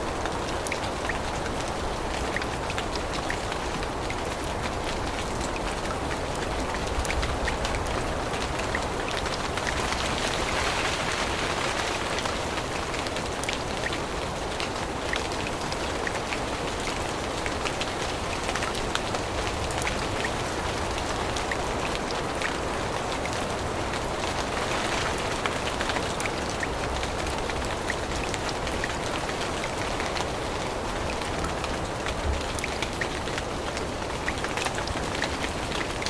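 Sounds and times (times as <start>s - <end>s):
raindrops ticking on leaves: 0.0s - 36.0s
steady rain in forest: 0.0s - 36.0s.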